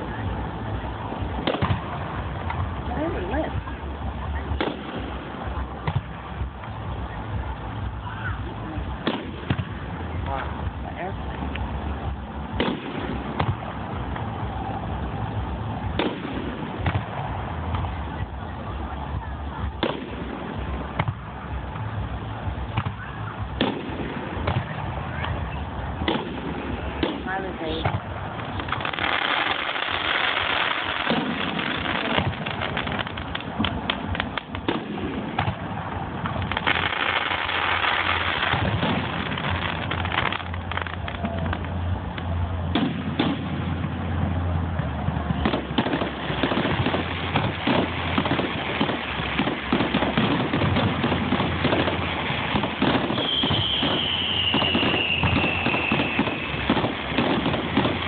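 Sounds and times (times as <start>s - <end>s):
crowd voices: 0.0s - 58.0s
fireworks bangs: 0.0s - 58.0s.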